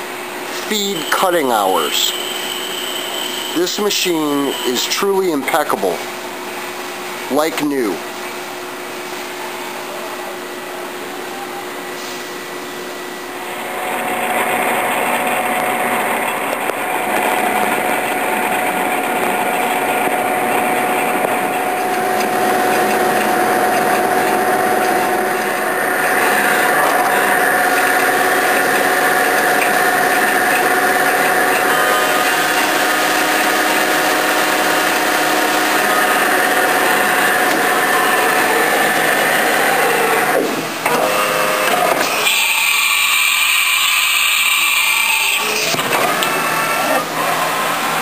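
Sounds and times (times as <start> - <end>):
milling machine motor whine: 0.4 - 5.3, 12.8 - 48.0.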